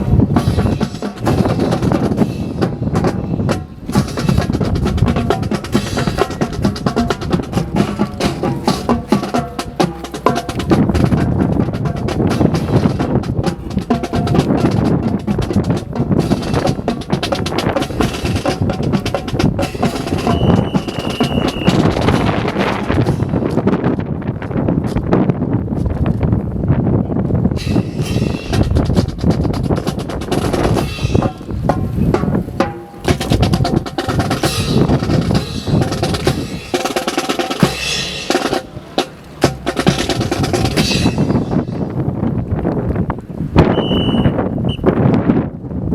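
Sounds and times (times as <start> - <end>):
snare and bass drumming: 0.0 - 25.2, 27.5 - 42.2
low wind rumble: 0.0 - 45.9.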